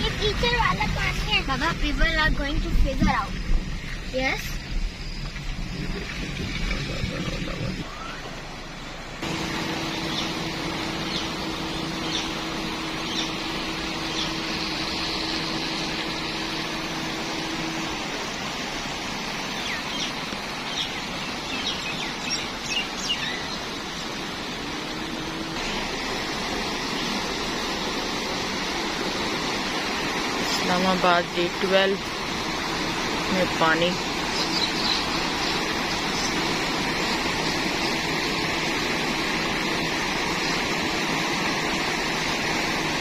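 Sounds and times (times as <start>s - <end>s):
birds chirping: 0.0s - 41.9s
faint steady hum: 0.0s - 43.0s
floodwater rushing: 0.0s - 43.0s.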